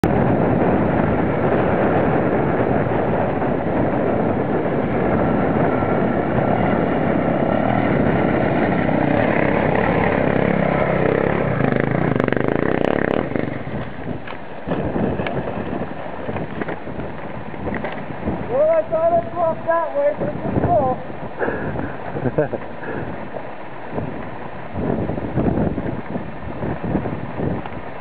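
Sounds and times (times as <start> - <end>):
motorcycle engine running hard: 0.0 - 28.0.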